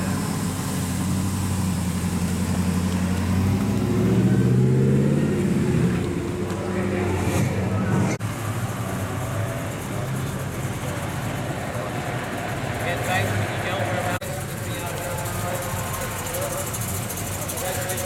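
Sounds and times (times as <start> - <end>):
other engines idling: 0.0 - 18.0
pickup engine idling and revving: 0.0 - 18.0.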